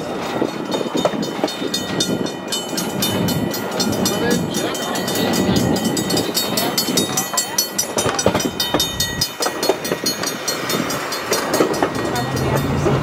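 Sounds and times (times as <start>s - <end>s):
train wheels clacking over rails: 0.0s - 13.0s.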